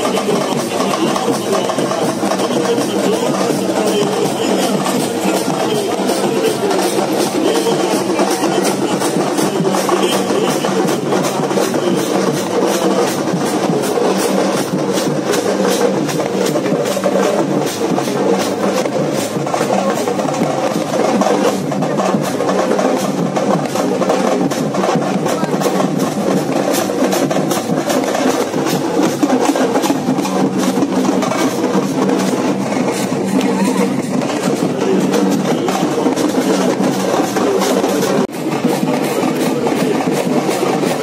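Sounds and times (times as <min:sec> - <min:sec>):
music with fast drumming: 0:00.0 - 0:41.0.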